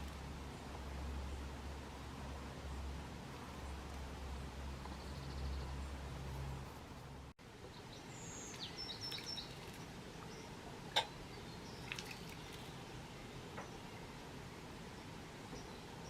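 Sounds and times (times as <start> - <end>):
songbird chirps: 0.0 - 16.0
steady outdoor hiss: 0.0 - 16.0.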